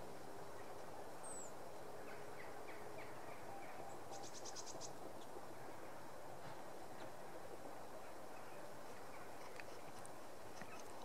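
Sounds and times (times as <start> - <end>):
songbirds calling: 0.0 - 6.1, 7.8 - 11.0
steady background noise: 0.0 - 11.0.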